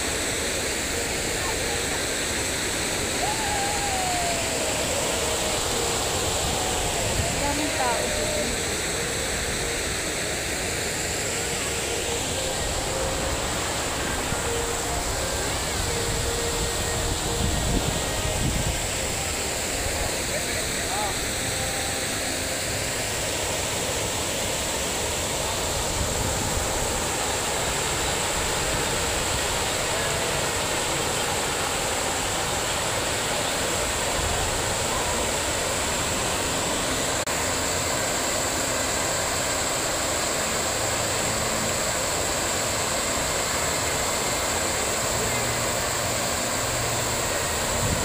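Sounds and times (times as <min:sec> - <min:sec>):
fountain water splashing: 0:00.0 - 0:48.0.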